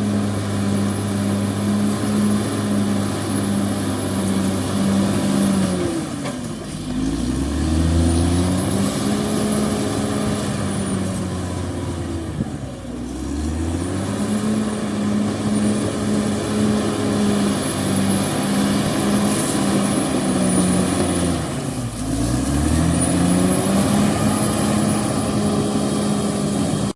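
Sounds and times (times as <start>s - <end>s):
bulldozer diesel engine revving: 0.0s - 26.9s.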